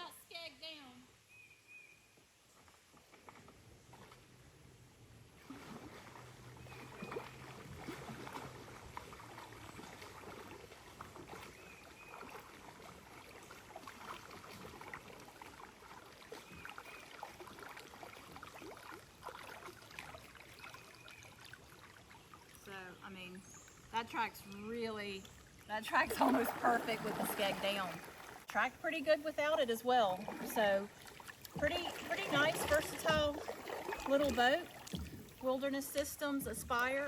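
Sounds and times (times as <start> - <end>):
paddle strokes through water: 2.4 - 37.0
water dripping off paddle: 5.4 - 37.0.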